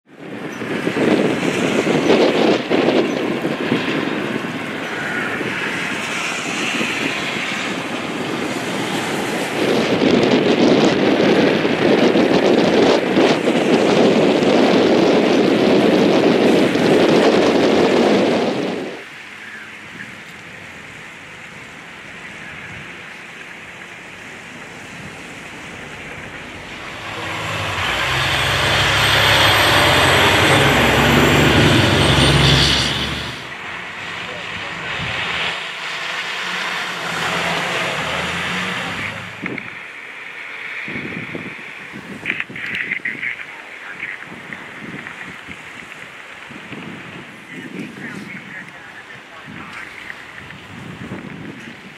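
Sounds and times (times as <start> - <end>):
fire truck engine: 0.0 - 51.9
road noise: 0.0 - 51.9
tyres hissing on wet road: 0.2 - 51.9.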